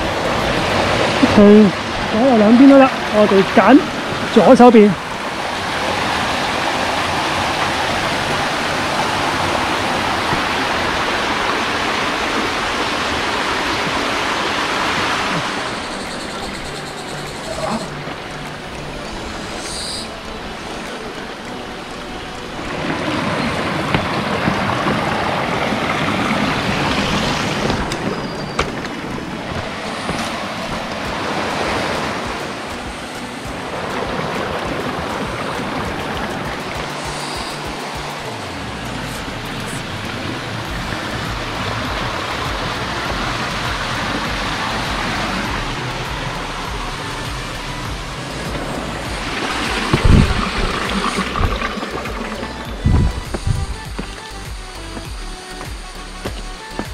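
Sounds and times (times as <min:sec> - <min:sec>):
stream rushing over boulders: 0:00.0 - 0:56.9.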